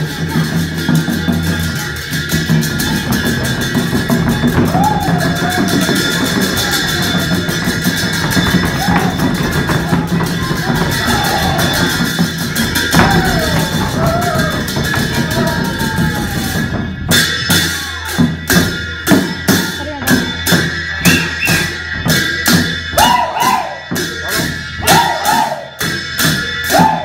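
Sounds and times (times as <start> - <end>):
voices singing or calling: 0.0 - 18.4, 22.9 - 25.9, 26.6 - 27.0
barrel drum beats: 0.0 - 27.0
folk dance music: 0.0 - 27.0.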